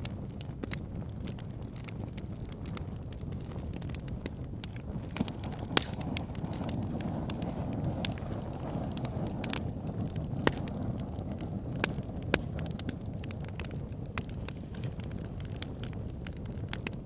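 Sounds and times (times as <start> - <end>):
logs crackling and popping: 0.0 - 17.0
wood fire burning: 0.0 - 17.0.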